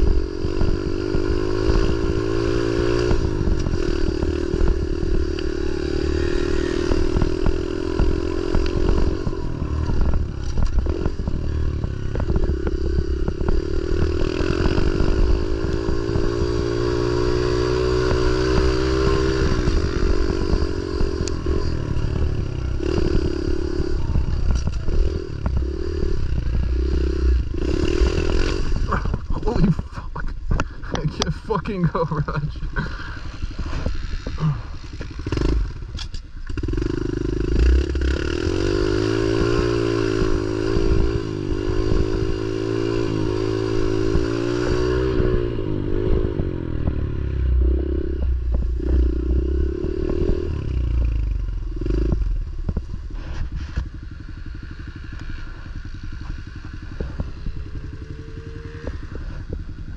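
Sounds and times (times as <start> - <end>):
motorbike engine revving: 0.0 - 59.9
wind: 0.0 - 59.9.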